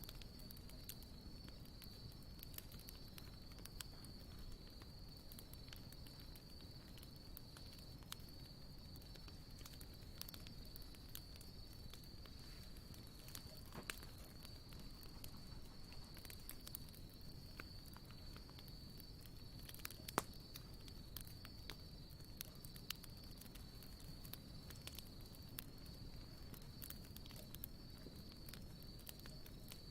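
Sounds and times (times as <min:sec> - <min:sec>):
campfire crackling: 0:00.0 - 0:29.9
fire popping: 0:00.0 - 0:29.9.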